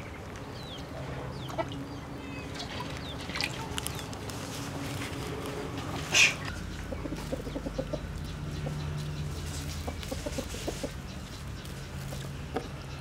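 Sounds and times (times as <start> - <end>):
chickens clucking: 1.0 - 4.0, 5.5 - 13.0.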